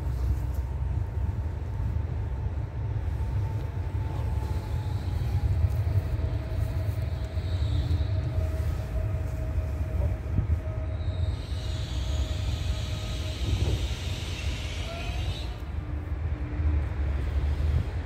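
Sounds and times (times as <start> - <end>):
thin whine from train: 0.0 - 18.0
train rumble: 0.0 - 18.0.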